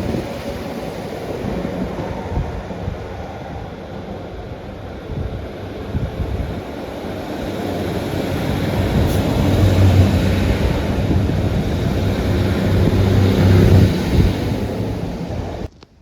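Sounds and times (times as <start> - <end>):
diesel train engine drone: 0.0 - 15.7.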